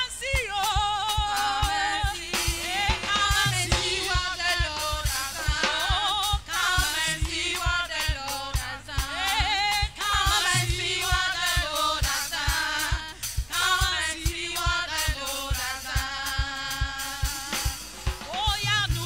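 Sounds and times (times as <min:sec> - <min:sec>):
steady drum beat: 0:00.0 - 0:19.0
women singing in harmony: 0:00.0 - 0:19.0.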